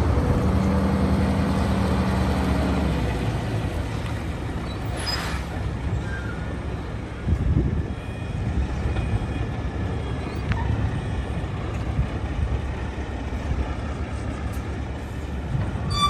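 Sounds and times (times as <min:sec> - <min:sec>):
truck diesel engine: 0:00.0 - 0:16.0.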